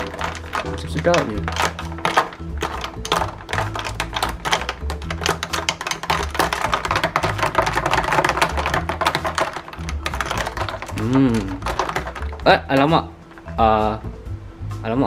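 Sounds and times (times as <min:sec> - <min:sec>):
ice cubes clinking in cup: 0:00.0 - 0:12.9.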